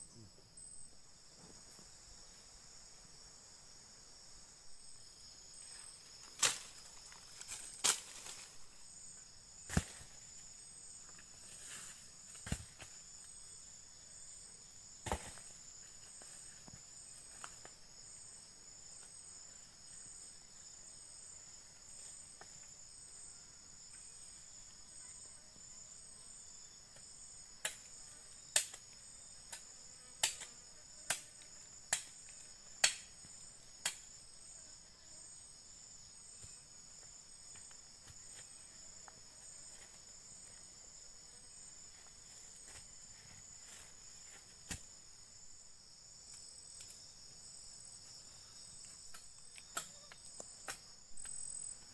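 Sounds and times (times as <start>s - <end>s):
insects chirping: 0.0s - 51.9s.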